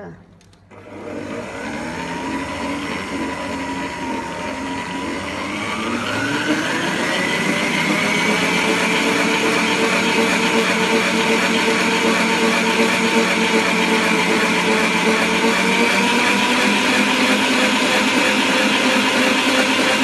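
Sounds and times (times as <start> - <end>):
stand mixer motor whine: 0.7 - 20.0
whisk beating batter in steel bowl: 2.4 - 20.0.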